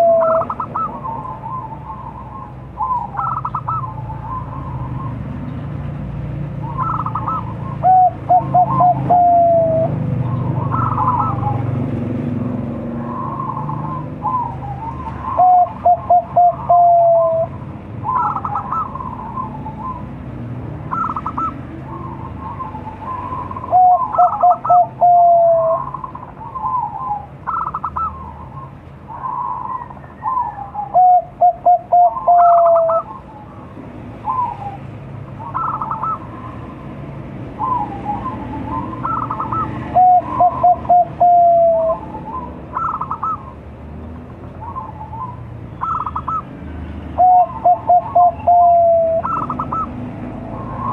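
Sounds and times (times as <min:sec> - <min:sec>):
dove cooing song: 0:00.0 - 0:05.6, 0:06.5 - 0:50.9.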